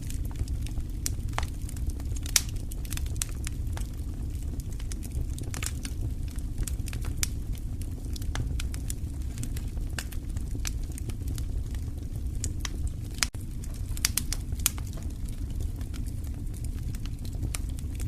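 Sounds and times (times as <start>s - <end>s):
low rumble: 0.0s - 18.0s
wood fire crackling: 0.0s - 18.0s.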